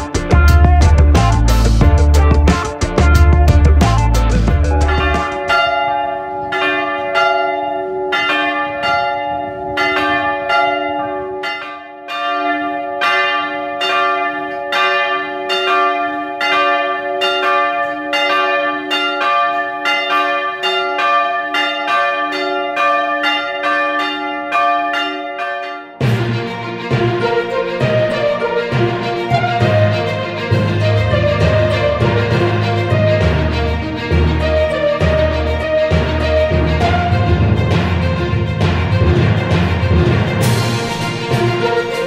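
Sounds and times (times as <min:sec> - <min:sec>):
church bells ringing: 0:00.0 - 0:42.0.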